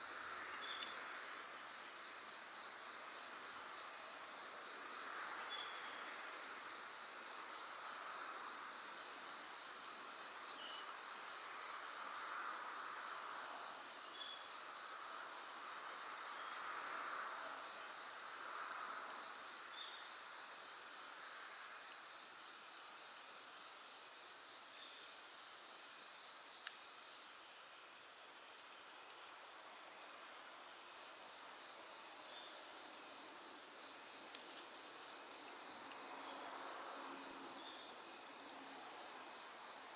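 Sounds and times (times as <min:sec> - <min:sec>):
crickets trilling: 0:00.0 - 0:39.9
short repeating insect call: 0:00.0 - 0:39.9.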